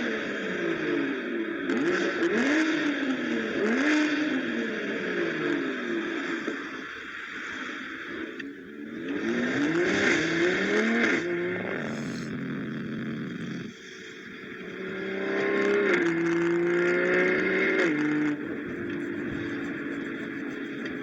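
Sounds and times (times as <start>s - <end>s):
car engine accelerating hard: 0.0s - 6.8s, 7.7s - 21.0s.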